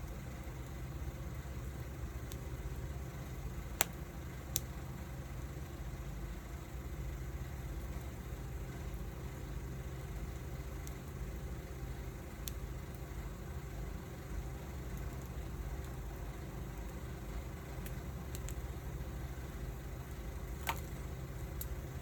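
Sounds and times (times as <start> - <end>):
wood fire popping and crackling: 0.0 - 5.6, 7.1 - 22.0.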